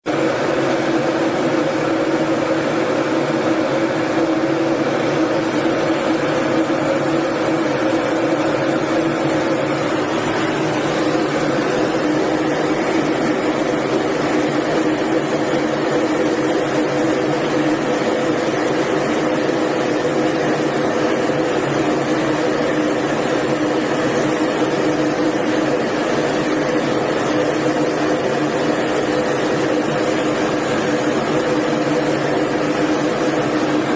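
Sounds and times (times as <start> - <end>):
engine drone: 0.0 - 33.9.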